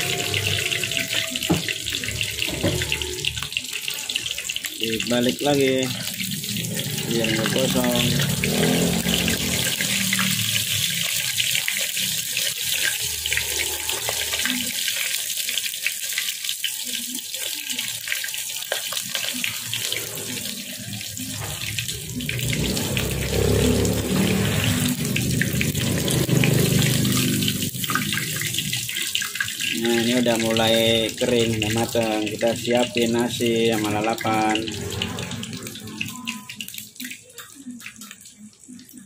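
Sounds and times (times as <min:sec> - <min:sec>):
chicken sizzling in hot oil: 0:00.0 - 0:39.0
oil crackling and popping: 0:00.0 - 0:39.0.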